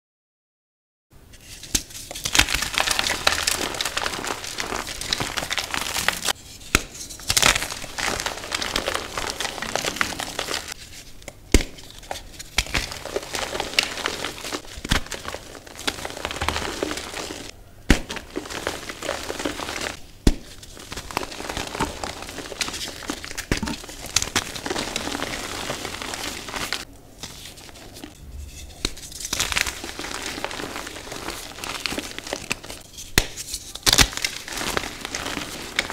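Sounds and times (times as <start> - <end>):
chalk crunching and crumbling: 1.4 - 35.9
chalk pieces snapping: 1.6 - 28.1, 28.8 - 35.9.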